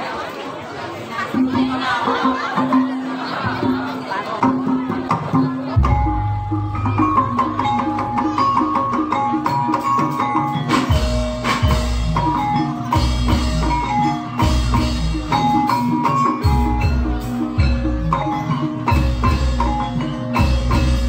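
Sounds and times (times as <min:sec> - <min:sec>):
metal mallet instruments: 0:01.3 - 0:21.0
drumming: 0:01.4 - 0:21.0.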